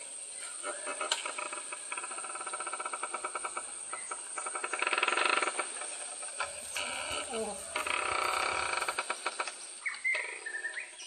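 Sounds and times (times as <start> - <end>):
rapid pulsing insect trill: 0.0 - 10.6
high insect drone: 0.0 - 11.0.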